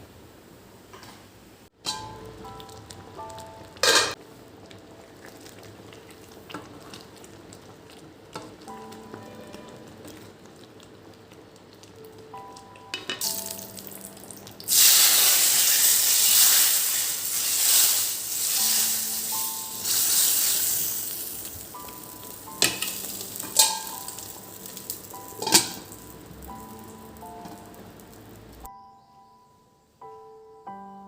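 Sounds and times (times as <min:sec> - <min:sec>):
soft background music: 0:01.8 - 0:16.7, 0:17.3 - 0:31.0
food sizzling in hot oil: 0:01.9 - 0:28.7.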